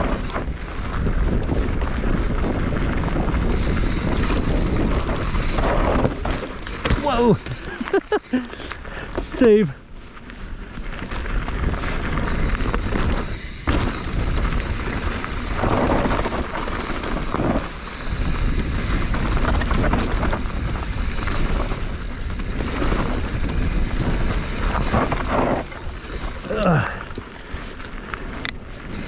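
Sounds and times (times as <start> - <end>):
bike tyres skidding over dirt: 0.0 - 29.0
wind buffeting microphone: 0.0 - 29.0.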